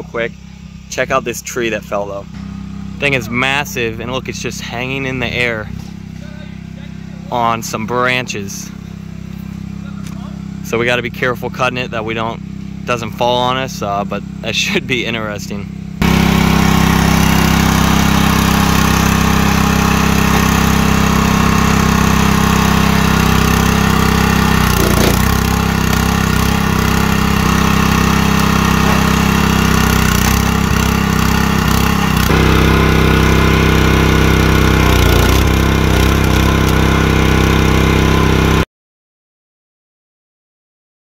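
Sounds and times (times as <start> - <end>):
log splitter engine running: 0.0 - 38.6.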